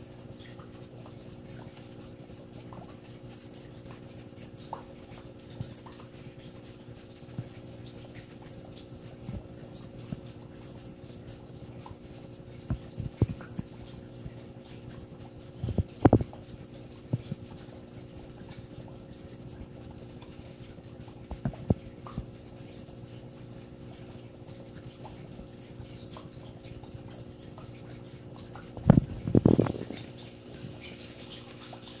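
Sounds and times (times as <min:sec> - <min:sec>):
aquarium pump humming: 0:00.0 - 0:32.0.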